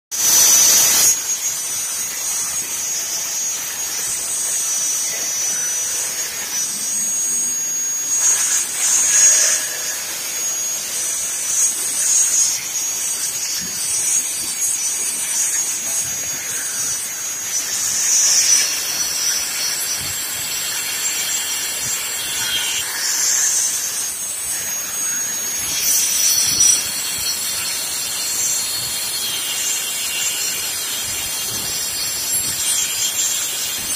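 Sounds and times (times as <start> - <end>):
circular saw whining: 0.1 - 33.9.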